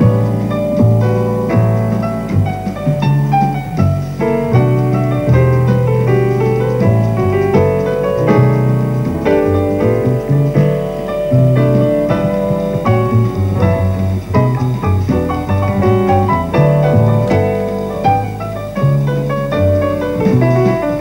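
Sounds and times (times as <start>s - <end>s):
piano background music: 0.0s - 21.0s.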